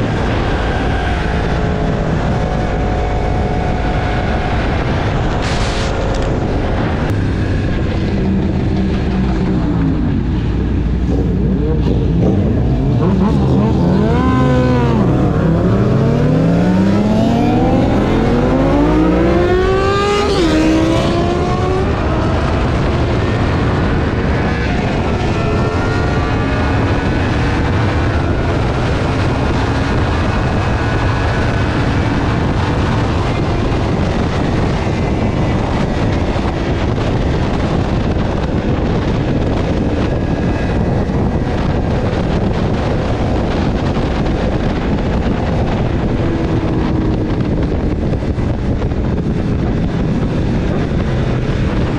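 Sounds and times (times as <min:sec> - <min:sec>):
motorcycle engine: 0:00.0 - 0:51.9
wind and road noise: 0:00.0 - 0:51.9.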